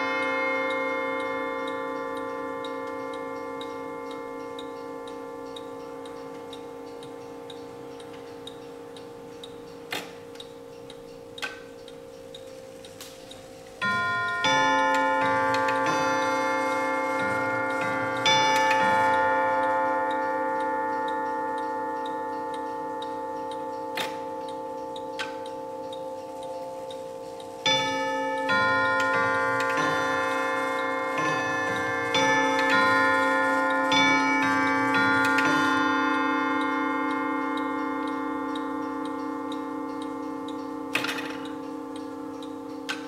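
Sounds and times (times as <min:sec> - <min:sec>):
clock chime notes ringing: 0:00.0 - 0:43.0
clock ticking: 0:00.0 - 0:43.0.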